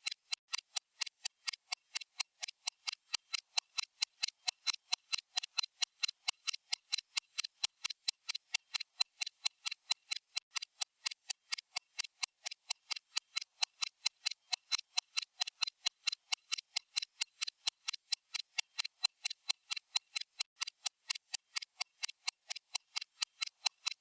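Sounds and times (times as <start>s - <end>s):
stopwatch ticking: 0.0s - 24.0s.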